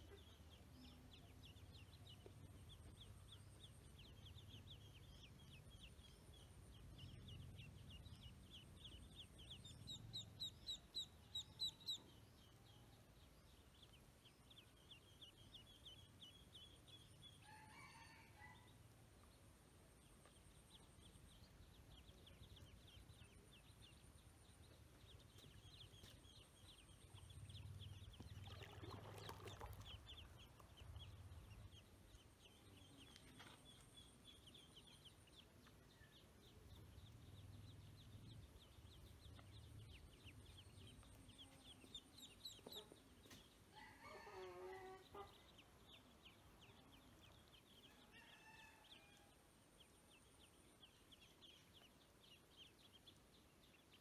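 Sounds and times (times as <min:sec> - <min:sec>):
ducklings peeping: 0:00.0 - 0:17.4, 0:20.3 - 0:48.7.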